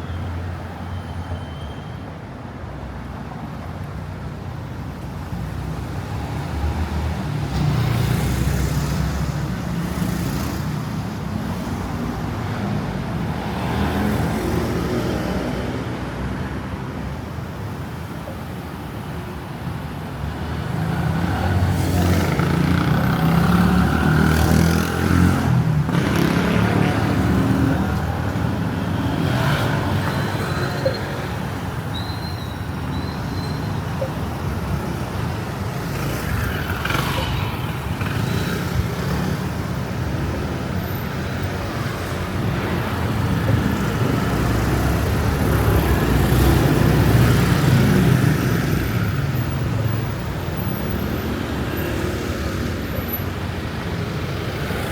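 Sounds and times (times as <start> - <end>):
vehicles passing: 2.2 - 54.9.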